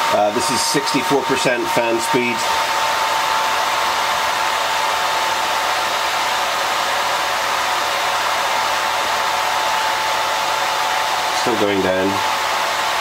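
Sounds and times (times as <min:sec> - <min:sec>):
cooling fan rushing air: 0:00.0 - 0:13.0
thin steady fan whine: 0:00.0 - 0:13.0.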